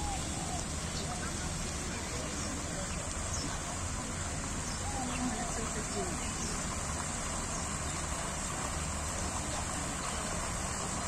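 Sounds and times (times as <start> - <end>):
fountain jets splashing: 0.0 - 11.0.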